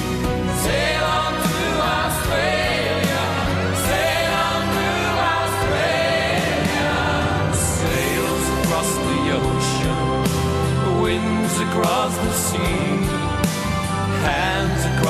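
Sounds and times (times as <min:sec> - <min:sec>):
song with voices singing: 0:00.0 - 0:15.0.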